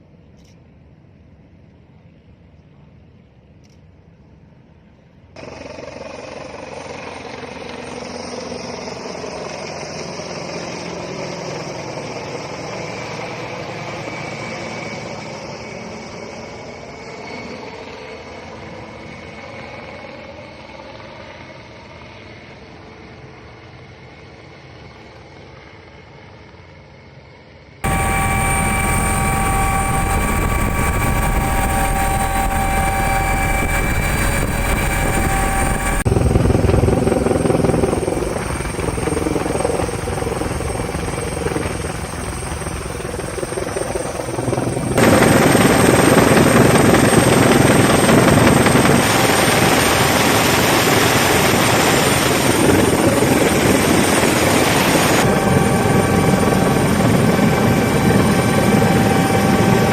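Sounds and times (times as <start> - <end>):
helicopter rotor and engine noise: 0.0 - 59.9
helicopter turbine whine: 5.4 - 59.9.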